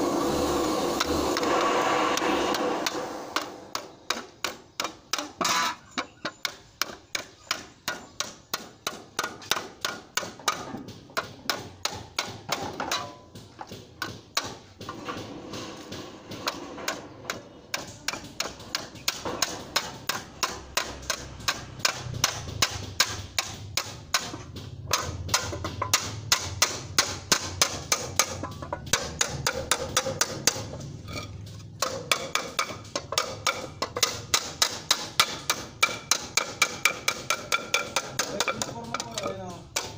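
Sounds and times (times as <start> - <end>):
hammer striking metal sheet: 0.9 - 4.6, 9.5 - 39.9.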